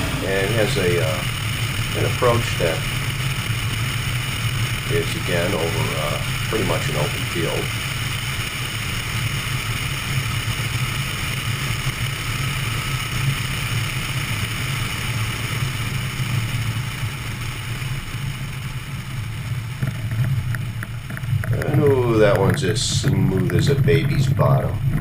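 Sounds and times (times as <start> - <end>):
light plane engine and propeller: 0.0 - 25.0.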